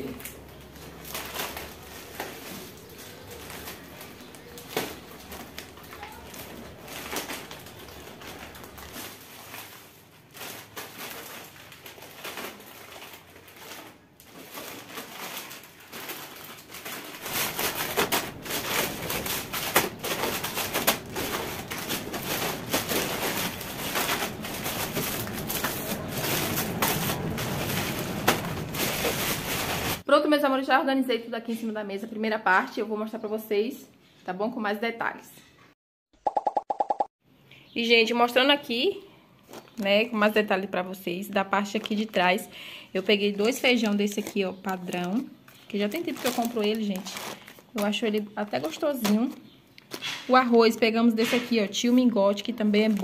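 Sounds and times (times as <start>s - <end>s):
plastic bag rustling: 0.0s - 30.1s, 39.4s - 53.0s.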